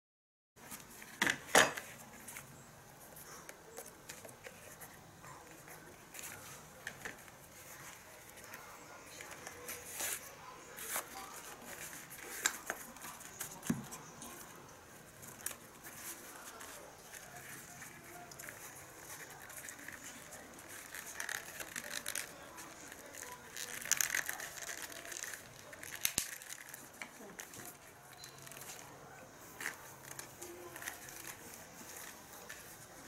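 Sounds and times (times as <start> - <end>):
leather rustling: 1.9 - 33.0.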